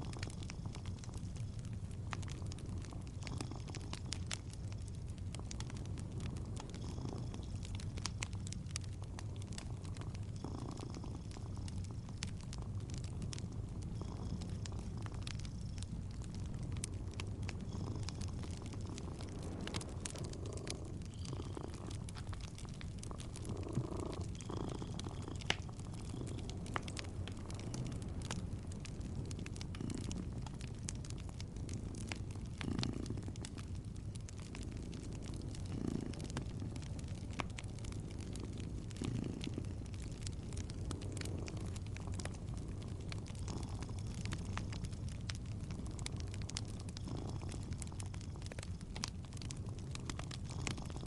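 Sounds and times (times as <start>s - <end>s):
cat purring: 0.0s - 51.0s
wood fire crackling: 0.0s - 51.0s.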